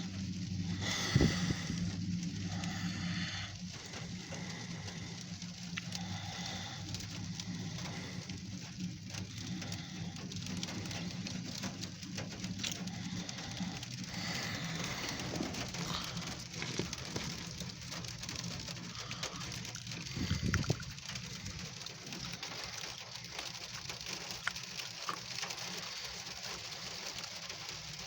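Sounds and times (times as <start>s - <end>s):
diesel locomotive engine rumble: 0.0s - 23.3s.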